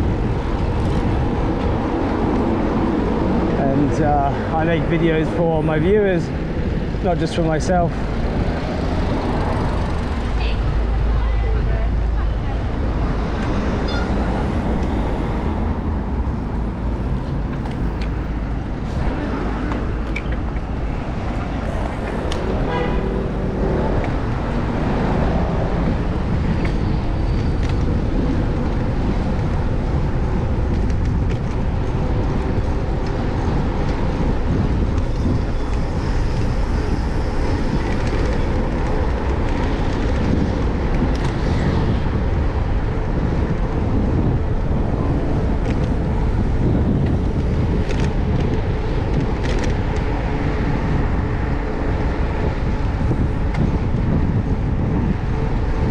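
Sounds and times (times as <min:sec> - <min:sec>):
cars passing: 0:00.0 - 0:55.9
city street traffic: 0:00.0 - 0:55.9
wind rumble on microphone: 0:00.0 - 0:55.9.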